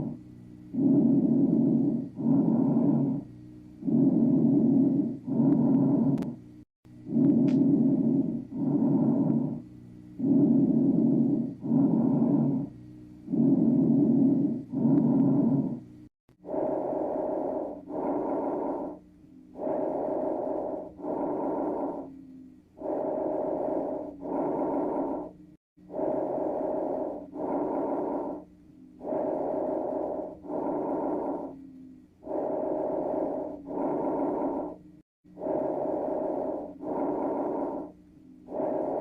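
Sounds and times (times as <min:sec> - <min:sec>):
breathing through stethoscope: 0:00.0 - 0:06.4, 0:07.1 - 0:09.6, 0:10.2 - 0:39.0.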